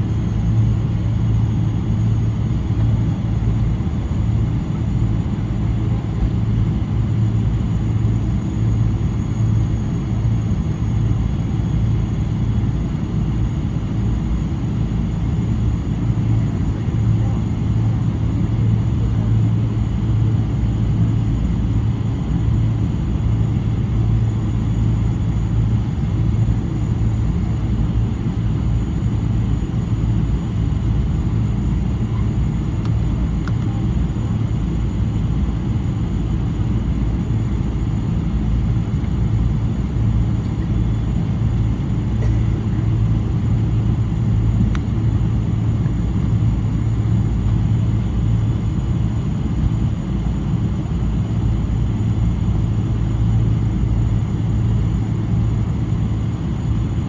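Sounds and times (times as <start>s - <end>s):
airplane cabin engine drone: 0.0s - 57.0s.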